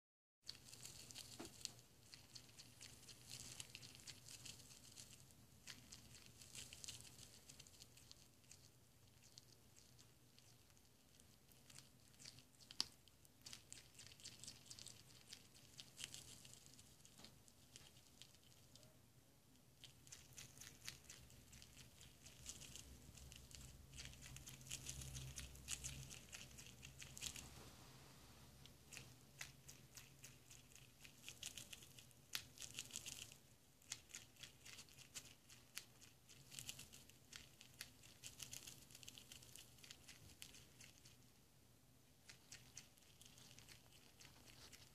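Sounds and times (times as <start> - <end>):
rodent crunching seeds: 0.4 - 19.0, 19.6 - 27.7, 28.5 - 41.3, 42.0 - 44.9.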